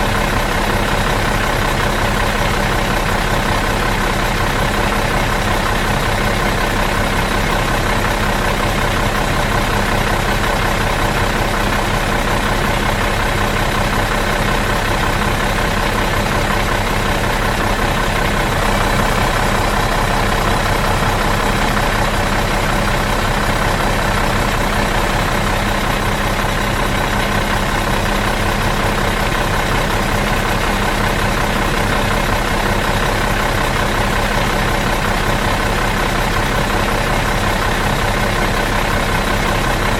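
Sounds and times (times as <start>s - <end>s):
bus engine idling: 0.0s - 39.9s.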